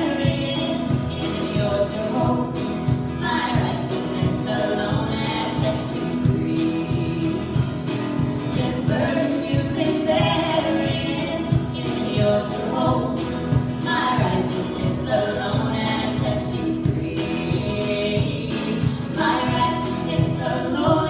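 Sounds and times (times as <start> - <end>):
folk band accompaniment: 0.0 - 21.0
voices singing: 0.0 - 21.0.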